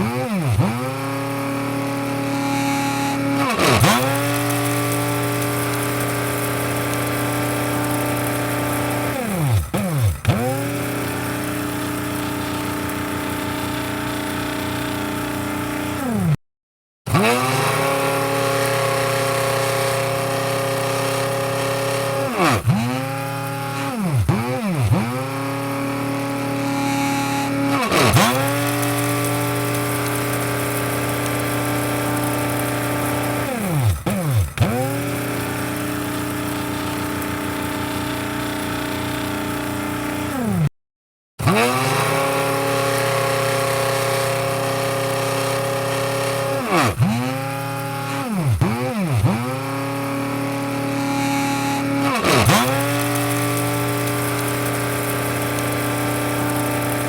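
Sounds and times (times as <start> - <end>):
coffee grinder motor humming: 0.0 - 16.4, 17.1 - 40.7, 41.4 - 57.0.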